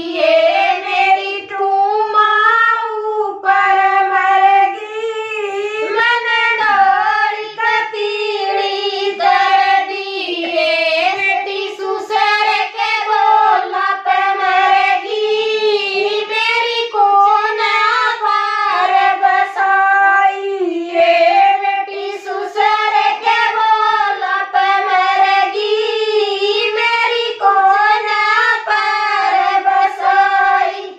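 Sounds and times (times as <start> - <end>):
women singing folk song: 0.0 - 30.9.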